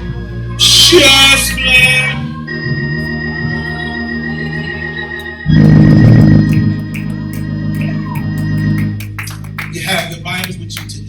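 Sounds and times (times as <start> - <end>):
organ low sustained chord: 0.0 - 11.0.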